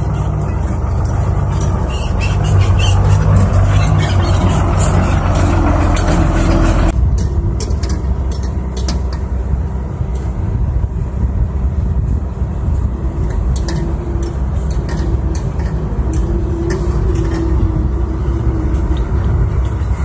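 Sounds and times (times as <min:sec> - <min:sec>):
diesel truck engine driving: 0:00.0 - 0:20.0
excavator diesel drone: 0:00.0 - 0:20.0.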